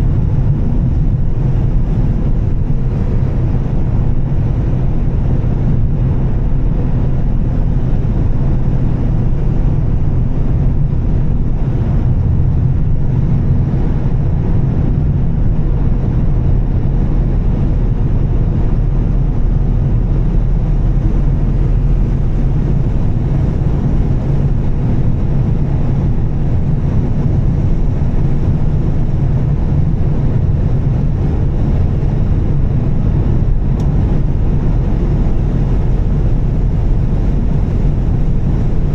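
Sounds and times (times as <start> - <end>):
car engine cruising hum: 0.0 - 38.9
tyre and road noise on wet road: 0.0 - 38.9.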